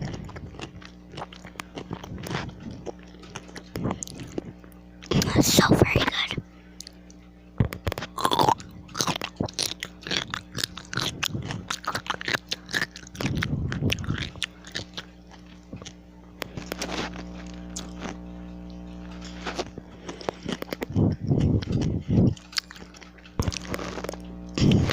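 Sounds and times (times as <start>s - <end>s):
person crunching a pickle: 0.0s - 4.8s, 6.8s - 24.9s.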